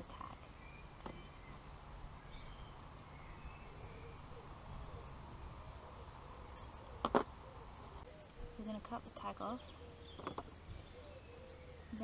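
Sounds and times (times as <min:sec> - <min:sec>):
low wind rumble: 0:00.0 - 0:12.0
small birds chirping: 0:00.0 - 0:12.0.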